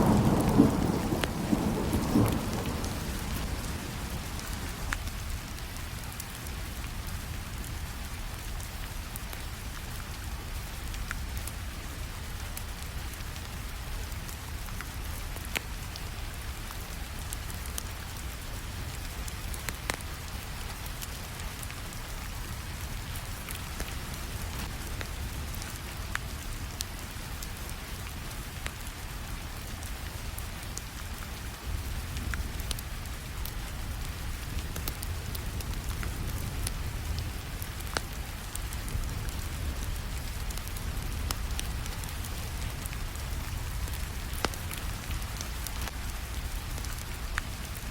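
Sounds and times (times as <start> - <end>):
wood fire crackling: 0.0 - 9.8, 10.5 - 47.9
steady rainfall: 0.0 - 47.9.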